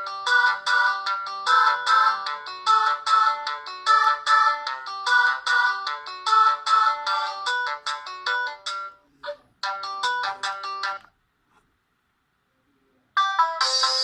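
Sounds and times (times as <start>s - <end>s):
polyphonic ringtone melody: 0.0s - 11.1s, 13.2s - 14.0s.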